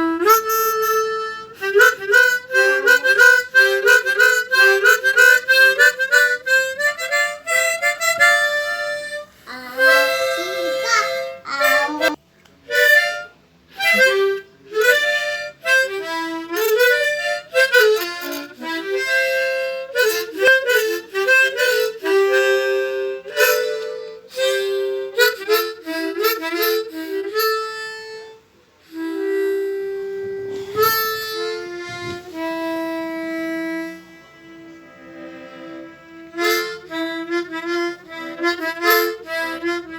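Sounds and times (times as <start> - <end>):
solo harmonica melody: 0.0 - 39.9.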